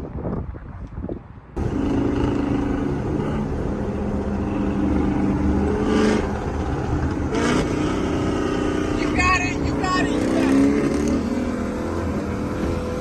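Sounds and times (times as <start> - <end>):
car engine rumbling: 1.4 - 13.0.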